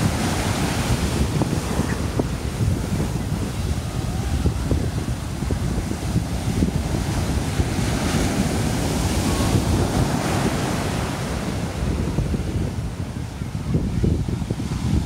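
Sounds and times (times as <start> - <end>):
surf breaking on a beach: 0.0 - 15.0
wind buffeting the microphone: 0.0 - 15.0.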